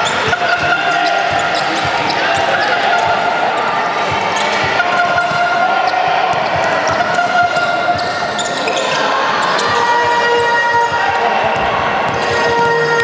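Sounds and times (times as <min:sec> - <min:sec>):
basketball bouncing on court: 0:00.0 - 0:03.3, 0:04.0 - 0:08.9, 0:09.5 - 0:13.0
voices calling across hall: 0:00.0 - 0:13.0.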